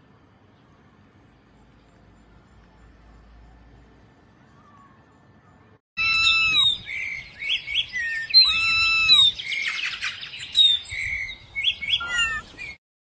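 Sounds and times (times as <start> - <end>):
songbirds chirping: 0.0 - 12.8.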